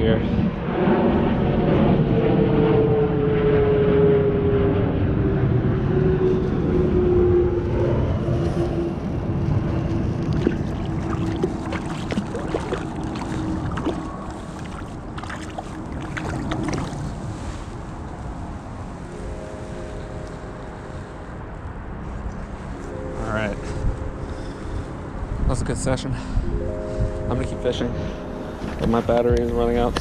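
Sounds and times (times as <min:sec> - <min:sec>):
passing engine drone: 0:00.0 - 0:30.0.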